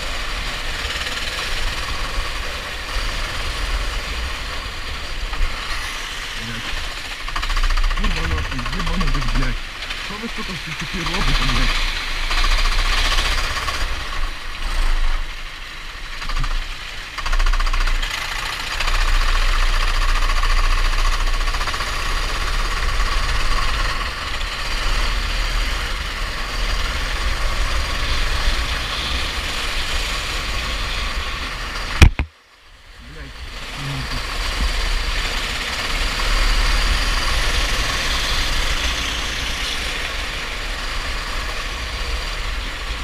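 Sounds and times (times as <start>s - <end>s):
go-kart engine running: 0.0s - 32.3s, 33.0s - 43.0s.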